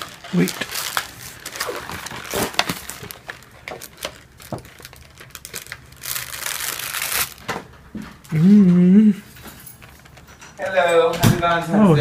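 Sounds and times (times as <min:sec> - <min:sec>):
packaging crinkling and rustling: 0:00.0 - 0:08.3, 0:09.3 - 0:11.0.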